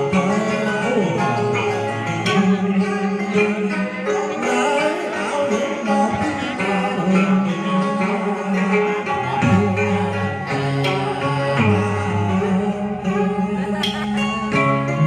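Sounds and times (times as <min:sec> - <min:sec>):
held bass notes: 0:00.0 - 0:15.0
plucked guitar: 0:00.0 - 0:15.0.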